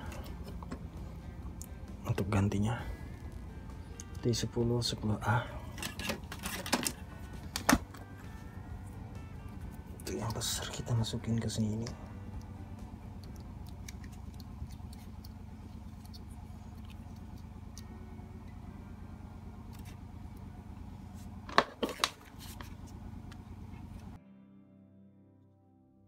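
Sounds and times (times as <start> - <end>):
faint music: 0.0 - 21.4
steady low hum: 0.0 - 24.2.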